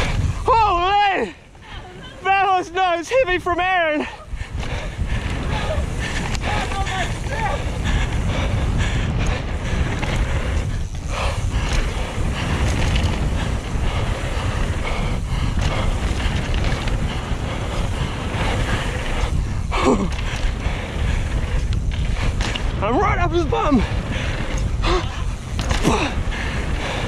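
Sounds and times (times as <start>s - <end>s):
tyre and trail noise: 0.0s - 27.0s
wind buffeting microphone: 0.0s - 27.0s.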